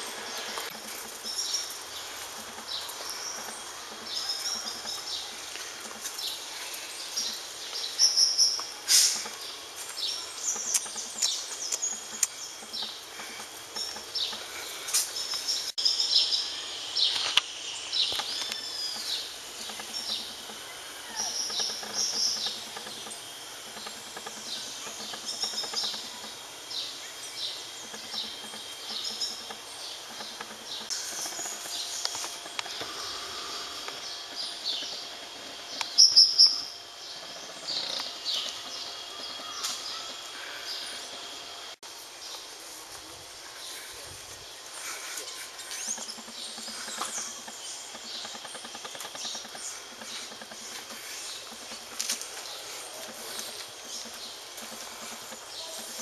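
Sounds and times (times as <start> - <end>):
birds chirping: 0.0 - 56.0
outdoor background noise: 0.0 - 56.0.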